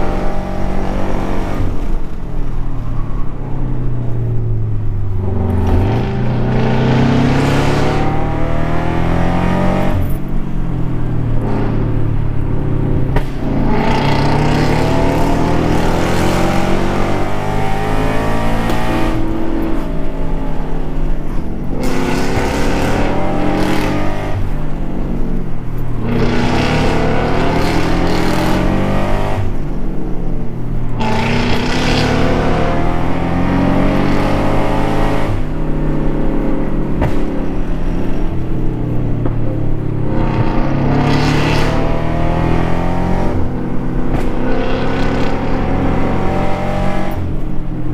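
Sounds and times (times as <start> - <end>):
sports car engine accelerating: 0.0 - 47.9.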